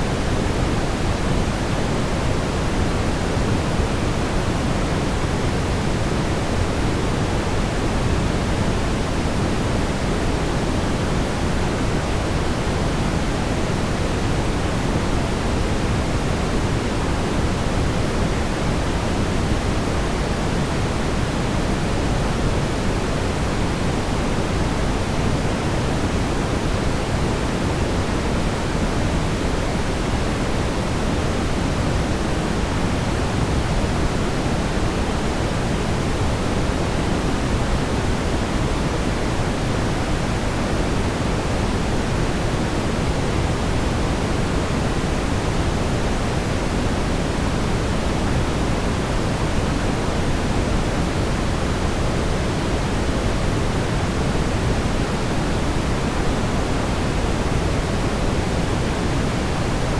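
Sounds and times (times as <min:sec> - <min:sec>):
brown noise rumbling hiss: 0:00.0 - 0:59.9.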